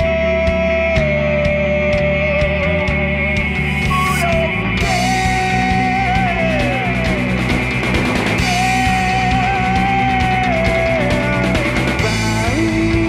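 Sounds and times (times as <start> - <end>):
lead singer holding long notes: 0.0 - 13.0
rock band playing live: 0.0 - 13.0.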